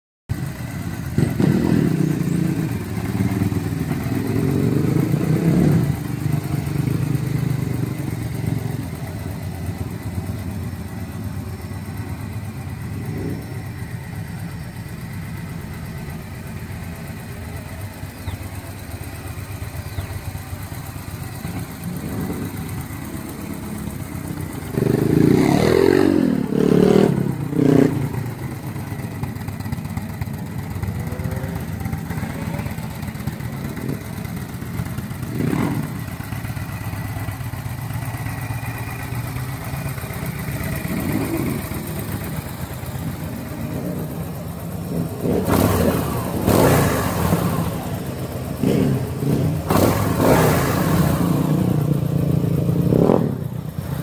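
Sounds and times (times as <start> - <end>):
motorcycle engine idling and revving: 0.3 - 54.0.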